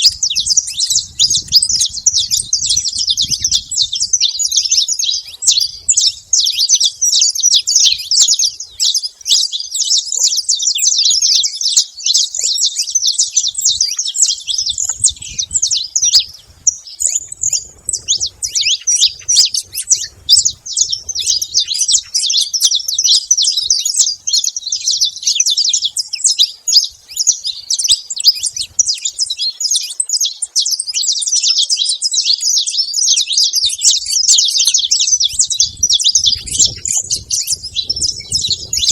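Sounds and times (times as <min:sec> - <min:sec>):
finches chirping rapidly: 0:00.0 - 0:38.9.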